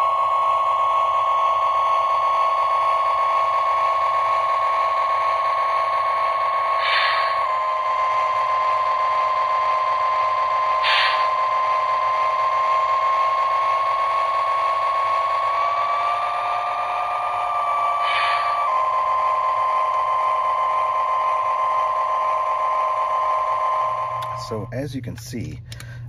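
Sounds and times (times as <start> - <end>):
electric motor whine: 0.0 - 24.7.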